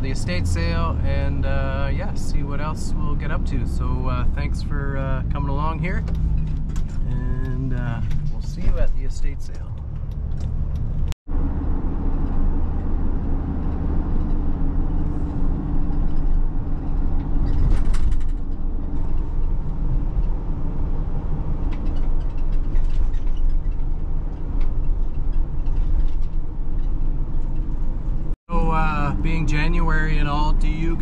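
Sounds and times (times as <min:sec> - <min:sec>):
engine and road noise drone: 0:00.0 - 0:31.0.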